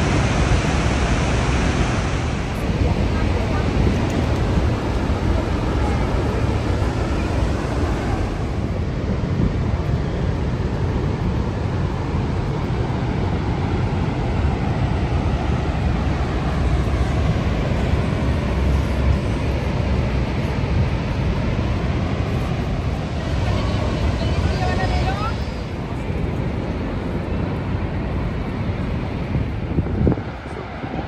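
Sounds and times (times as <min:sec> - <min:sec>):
waterfall rushing: 0:00.0 - 0:29.2.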